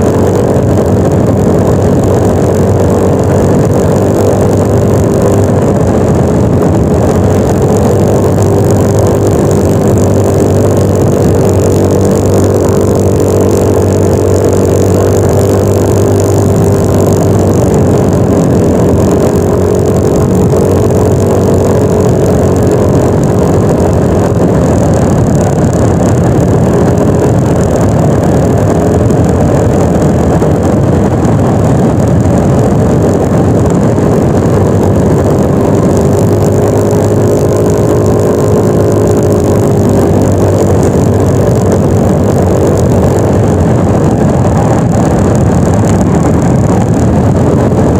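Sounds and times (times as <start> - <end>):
loud rushing noise: 0.0 - 47.9
scooter engine running: 0.0 - 47.9.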